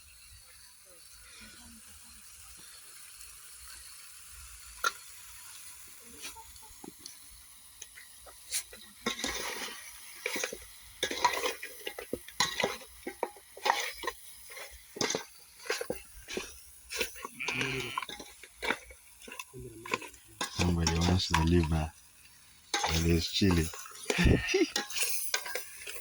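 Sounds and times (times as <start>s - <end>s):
faint hiss: 0.0s - 26.0s
food stirred and scraped in pan: 3.2s - 26.0s.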